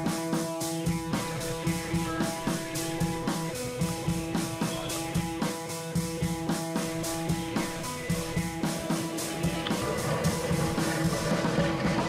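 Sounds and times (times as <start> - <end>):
drum kit beat: 0.0 - 12.0
guitar: 0.0 - 12.0.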